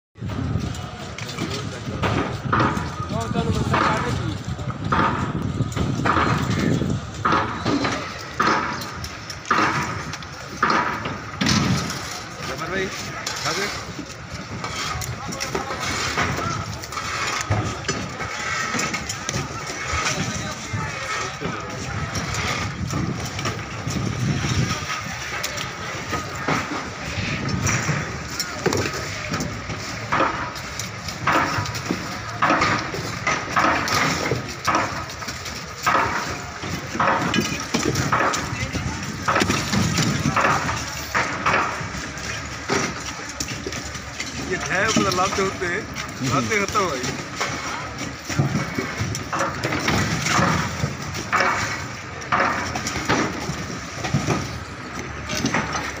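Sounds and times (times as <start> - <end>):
harbour bustle: 0.2 - 56.0
people's voices: 0.2 - 56.0
ice blocks cracking and crunching: 0.4 - 56.0.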